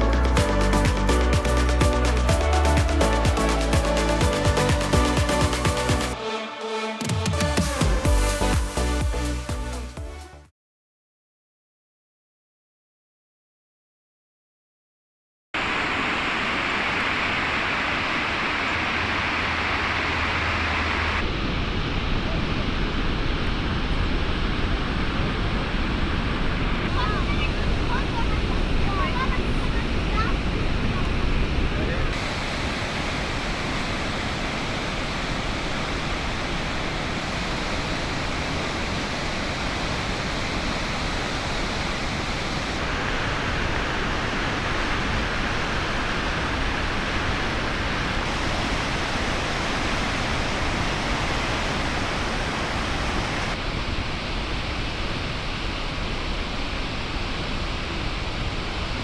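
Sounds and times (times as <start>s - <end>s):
waterfall roaring: 0.0s - 6.2s, 15.6s - 59.0s.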